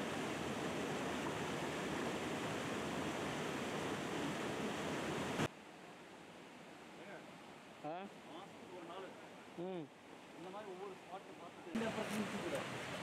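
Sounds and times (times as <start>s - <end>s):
river water flowing over rocks: 0.0s - 13.0s.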